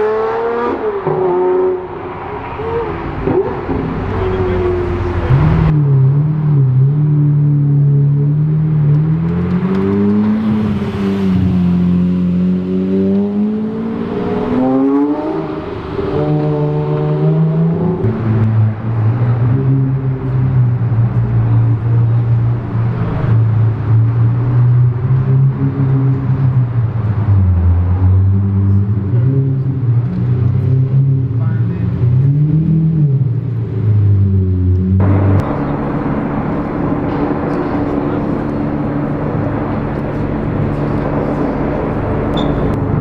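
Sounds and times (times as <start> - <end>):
car engine driving slowly: 1.0 - 43.0.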